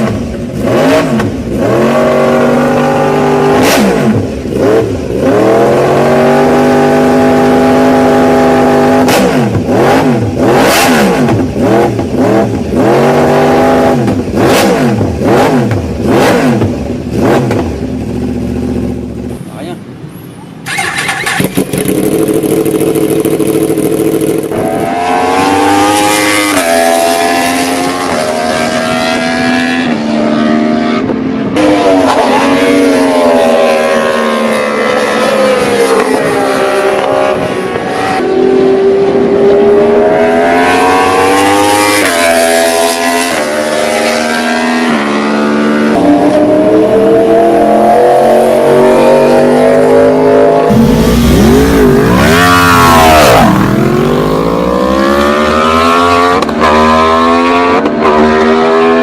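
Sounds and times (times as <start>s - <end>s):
motorcycle engine accelerating: 0.0s - 19.4s, 20.7s - 59.0s.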